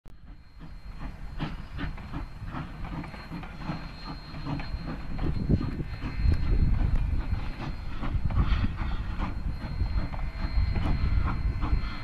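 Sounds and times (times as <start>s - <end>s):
distant steam train chuffing: 0.1s - 12.0s.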